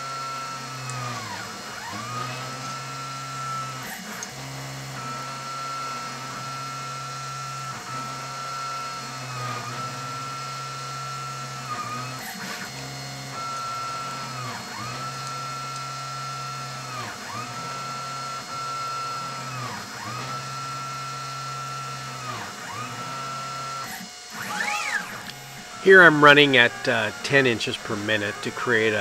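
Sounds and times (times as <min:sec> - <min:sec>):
stepper motors whining: 0:00.0 - 0:29.0.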